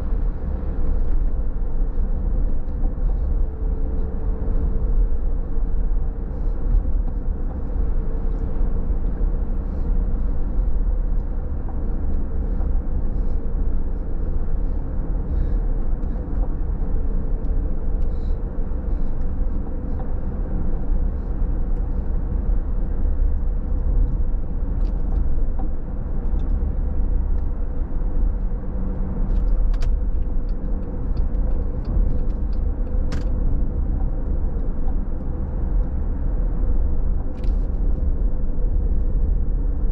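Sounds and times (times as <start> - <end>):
faint steady hum: 0.0 - 39.9
road and tyre noise: 0.0 - 39.9.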